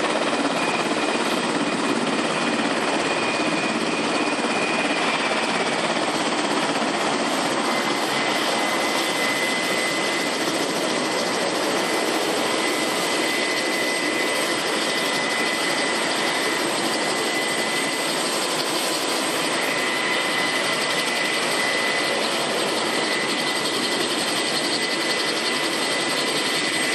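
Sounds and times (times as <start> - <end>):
helicopter turbine whine: 0.0 - 26.9.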